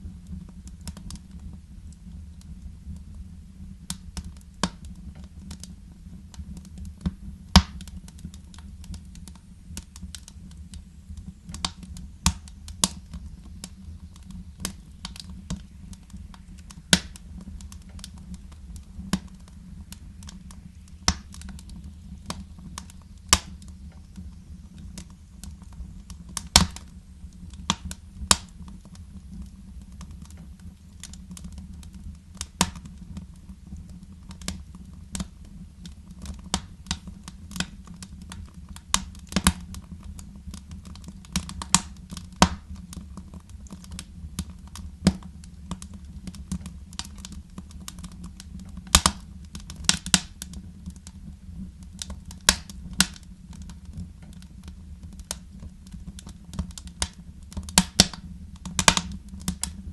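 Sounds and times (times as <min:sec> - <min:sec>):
low steady rumble: 0:00.0 - 0:59.9
wood fire crackling: 0:00.0 - 0:59.9.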